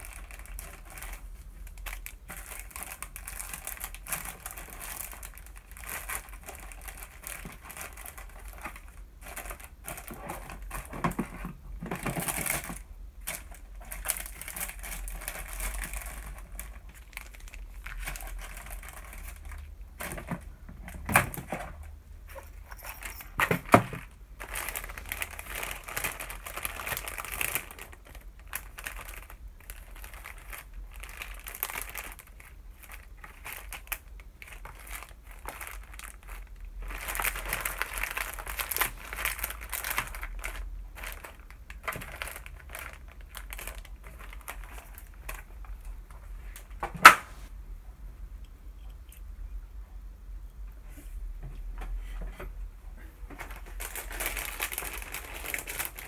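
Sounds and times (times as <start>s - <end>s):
plastic and paper crinkling: 0.0s - 47.5s, 53.1s - 56.0s.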